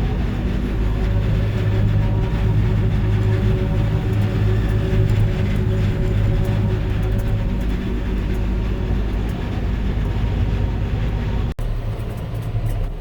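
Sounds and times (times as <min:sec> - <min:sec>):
heavy machinery engine drone: 0:00.0 - 0:13.0.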